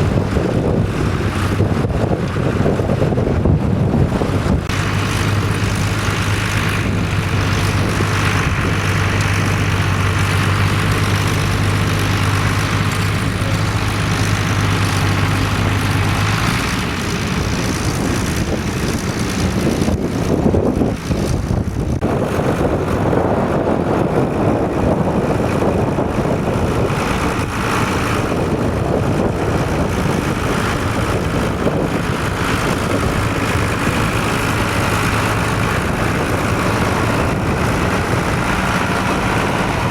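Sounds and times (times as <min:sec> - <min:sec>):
tractor engine running: 0:00.0 - 0:39.9
wind on microphone: 0:00.0 - 0:39.9.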